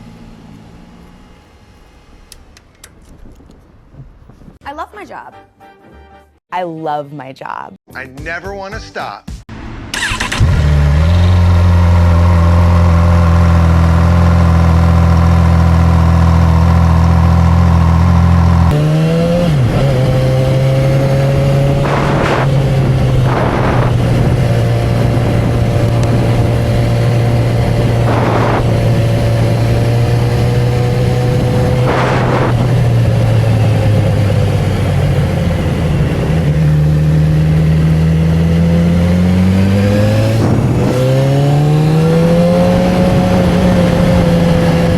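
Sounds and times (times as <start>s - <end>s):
motorcycle engine and exhaust: 0.0s - 4.6s, 9.5s - 44.9s.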